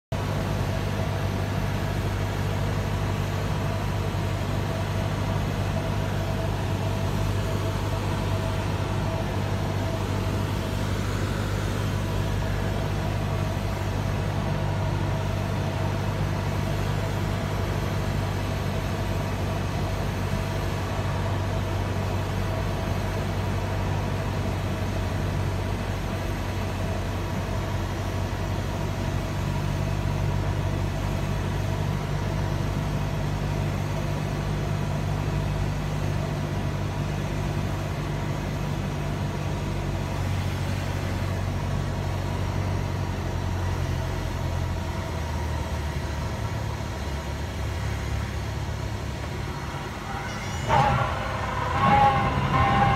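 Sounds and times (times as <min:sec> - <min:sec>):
light aircraft engine droning: 0:00.1 - 0:52.9.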